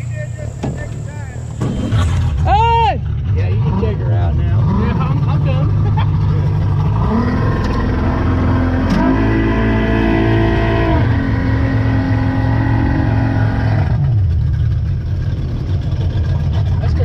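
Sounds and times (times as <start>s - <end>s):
speedboat engine revving: 0.0s - 17.0s.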